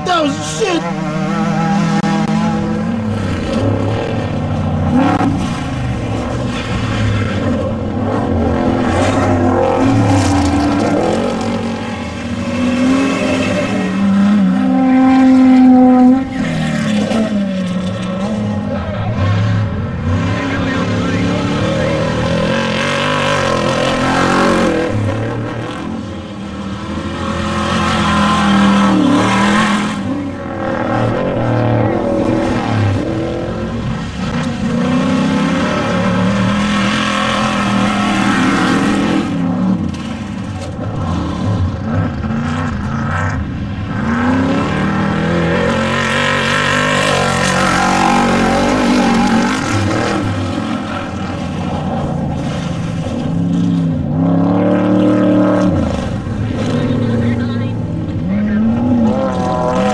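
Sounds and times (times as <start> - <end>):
race vehicle engines revving: 0.0 - 59.9.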